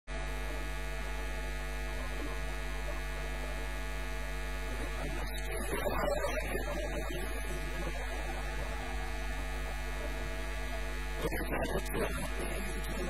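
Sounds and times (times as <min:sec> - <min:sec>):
electrical mains hum: 0:00.1 - 0:13.0
irregular noise: 0:00.1 - 0:13.0.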